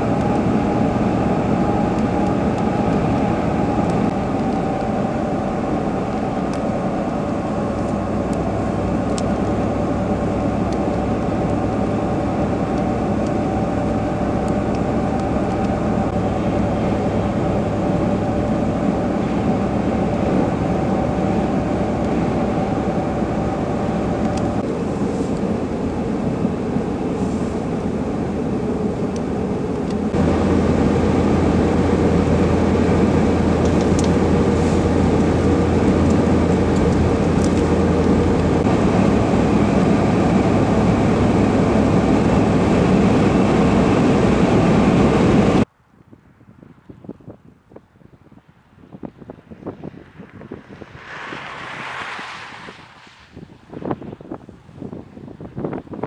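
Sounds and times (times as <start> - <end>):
car interior road noise: 0.0 - 56.0.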